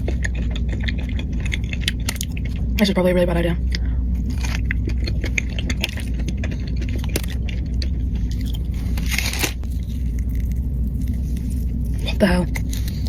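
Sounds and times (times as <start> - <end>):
person crunching snacks: 0.0 - 2.8, 3.7 - 13.0
steady low rumble: 0.0 - 13.0.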